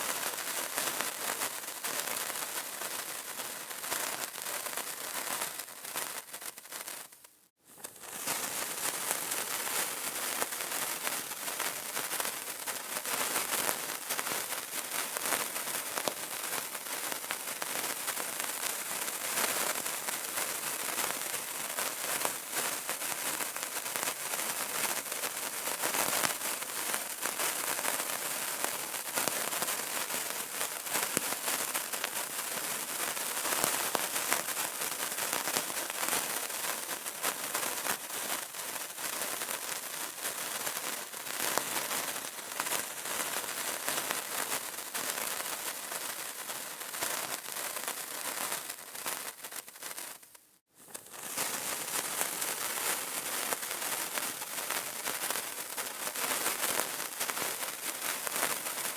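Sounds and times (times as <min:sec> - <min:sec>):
candle crackling and sputtering: 0:00.0 - 0:58.9.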